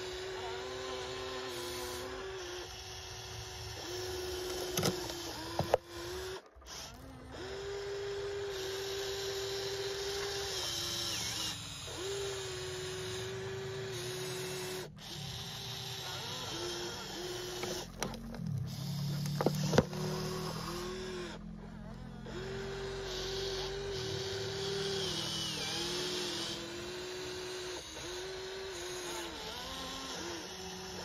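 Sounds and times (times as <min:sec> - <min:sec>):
small electric motors whining: 0:00.0 - 0:31.0.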